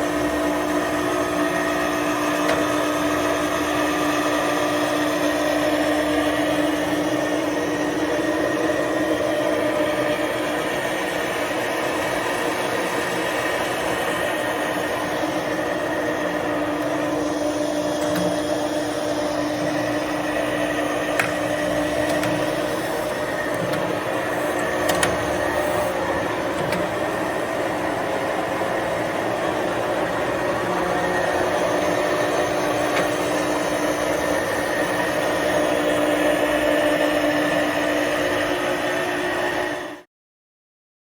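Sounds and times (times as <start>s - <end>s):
gear whine: 0.0s - 39.3s
lathe machine hum: 0.0s - 40.0s.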